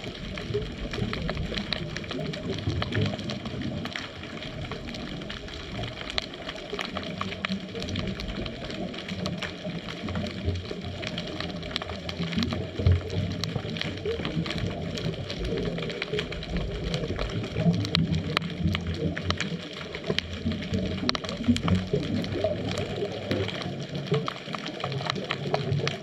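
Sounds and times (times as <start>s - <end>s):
muffled underwater rumble: 0.0s - 26.0s
sharp clicks and crackles: 0.0s - 26.0s.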